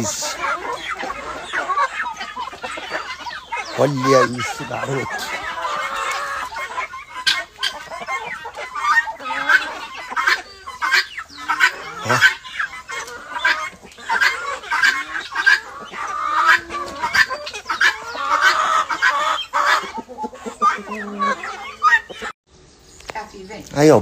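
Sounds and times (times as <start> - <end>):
chickens and guineafowl calling: 0.0 - 24.0.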